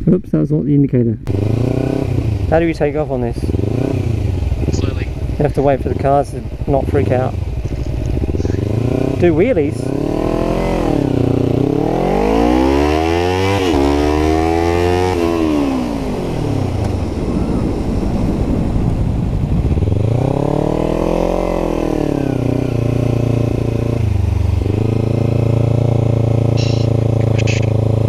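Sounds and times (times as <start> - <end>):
motorcycle engine accelerating: 1.3 - 28.0.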